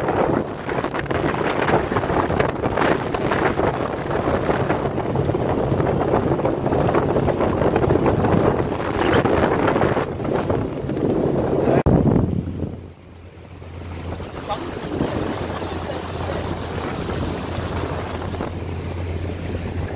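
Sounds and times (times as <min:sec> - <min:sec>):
boat engine humming: 0:00.0 - 0:19.9
rush of water: 0:00.0 - 0:19.9
wind buffeting microphone: 0:00.0 - 0:19.9.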